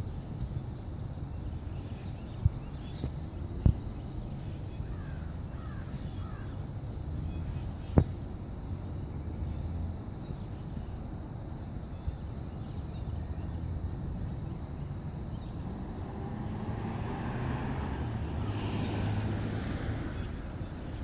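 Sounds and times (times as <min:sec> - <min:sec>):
low rumble of distant vehicles: 0:00.0 - 0:21.0.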